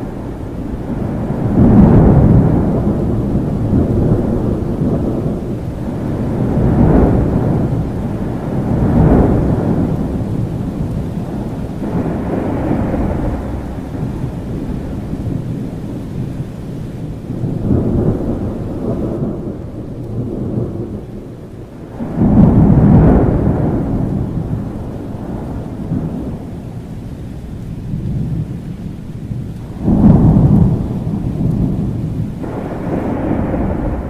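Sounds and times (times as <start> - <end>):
rolling thunder: 0.0 - 34.0
steady rain: 0.0 - 34.0.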